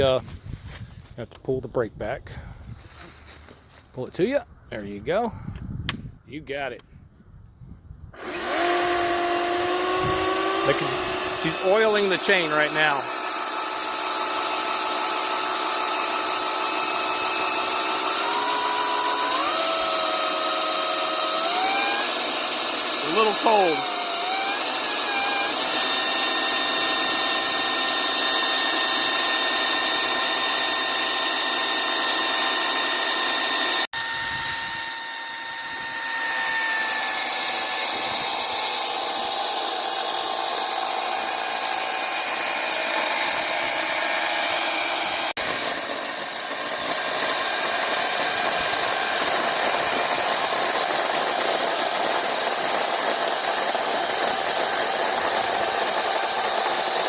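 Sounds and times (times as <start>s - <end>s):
electric chainsaw whining: 8.2s - 57.0s.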